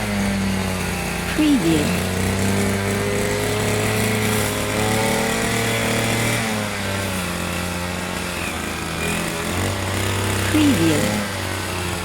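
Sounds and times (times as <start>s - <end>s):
cutting machine motor running: 0.0s - 12.0s.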